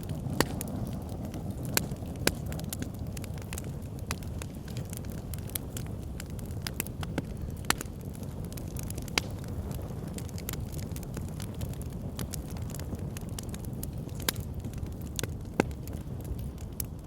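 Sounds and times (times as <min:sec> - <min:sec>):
fire crackling: 0:00.0 - 0:17.0
fire popping and snapping: 0:00.0 - 0:17.0.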